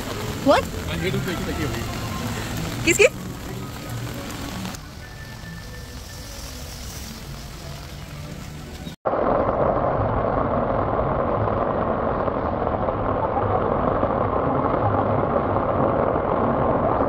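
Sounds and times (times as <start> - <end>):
heavy rain on wet paving: 0.0 - 17.0.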